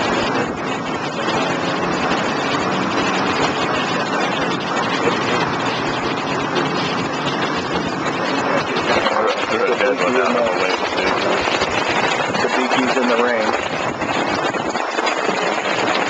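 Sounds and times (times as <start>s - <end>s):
outboard engine running: 0.0s - 16.0s
water noise: 0.0s - 16.0s
wind: 0.0s - 16.0s.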